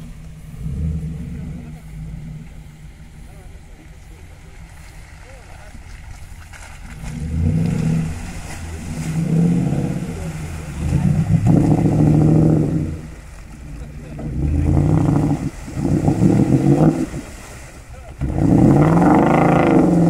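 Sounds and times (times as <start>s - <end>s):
suv engine revving: 0.0s - 20.0s.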